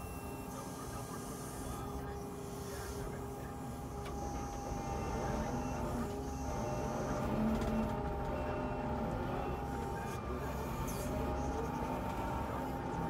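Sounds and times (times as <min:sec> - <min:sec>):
diesel engine running under load: 0:00.0 - 0:13.0
hydraulics whining: 0:00.0 - 0:13.0.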